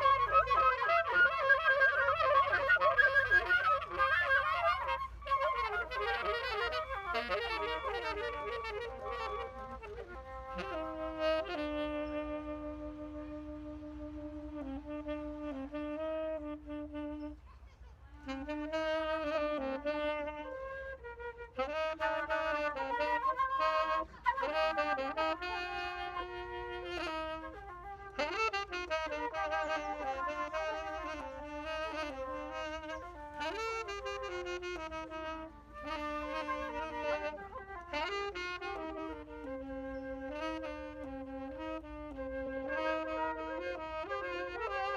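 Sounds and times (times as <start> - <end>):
wind instruments playing jazz: 0.0 - 44.9.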